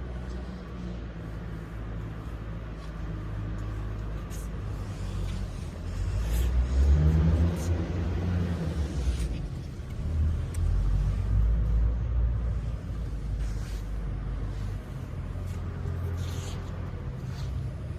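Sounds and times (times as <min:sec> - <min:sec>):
air compressor engine rumbling: 0:00.0 - 0:17.9.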